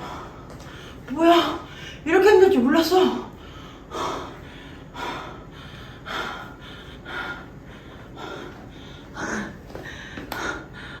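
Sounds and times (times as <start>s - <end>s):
person breathing heavily: 0.0s - 2.0s, 3.3s - 11.0s.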